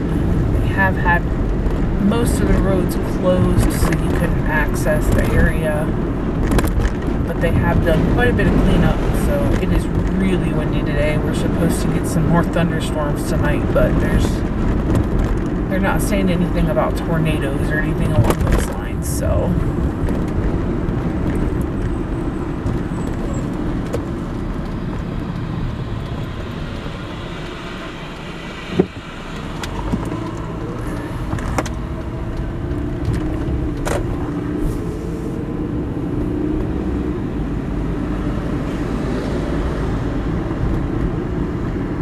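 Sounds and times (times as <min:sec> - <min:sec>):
road and engine noise inside car: 0:00.0 - 0:42.0.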